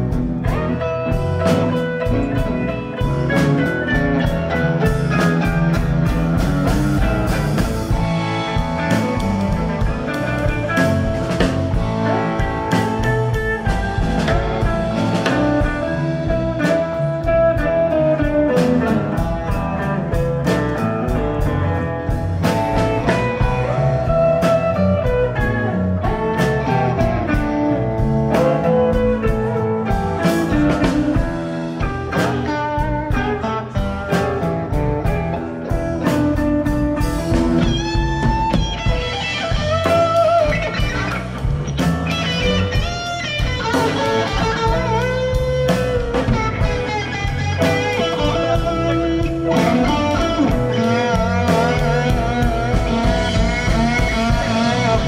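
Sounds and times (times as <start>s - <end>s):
drum kit: 0.0s - 55.0s
electric bass: 0.0s - 55.0s
electric guitar lead with bent notes: 0.0s - 55.0s
keyboard: 0.0s - 55.0s.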